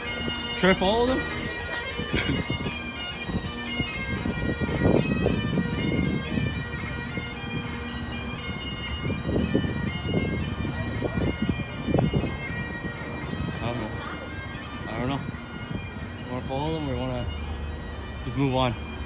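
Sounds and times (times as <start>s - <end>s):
bagpipes playing: 0.0s - 19.0s.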